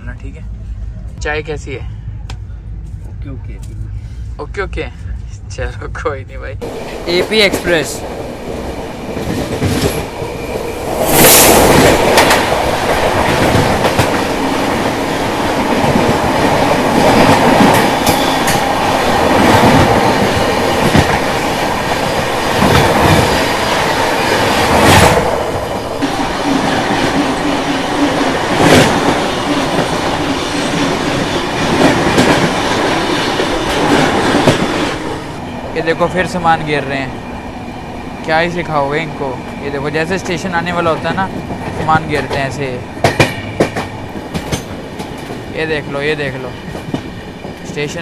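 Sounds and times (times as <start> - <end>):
rush of passing train: 0.0 - 48.0.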